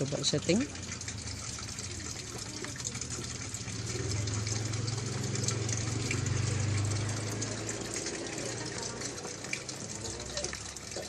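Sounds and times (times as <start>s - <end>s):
washing machine running: 0.0s - 11.0s
water pouring into tub: 0.0s - 11.0s.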